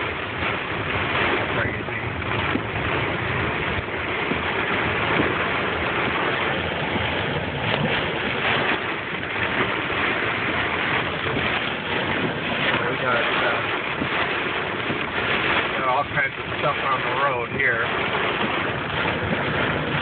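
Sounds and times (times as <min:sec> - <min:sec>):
hail pelting car roof: 0:00.0 - 0:20.0.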